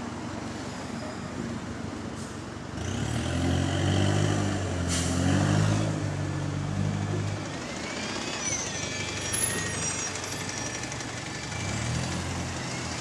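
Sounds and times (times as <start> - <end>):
bus engine pulling away: 0.0 - 13.0.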